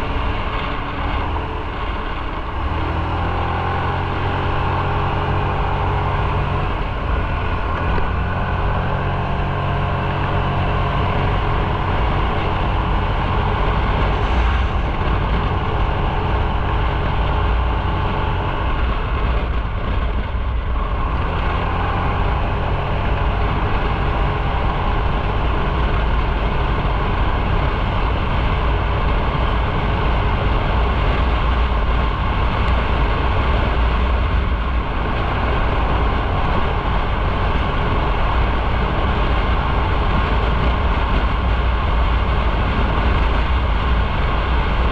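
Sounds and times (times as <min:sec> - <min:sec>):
motorcycle engine running: 0:00.0 - 0:44.9
road and wind rush: 0:00.0 - 0:44.9.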